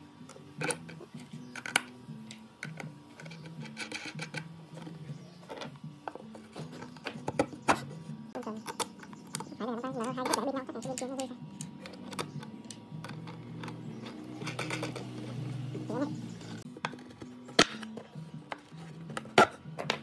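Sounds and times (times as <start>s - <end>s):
soft background music: 0.0s - 20.0s
metal parts clicking by hand: 0.2s - 7.6s, 8.4s - 18.0s.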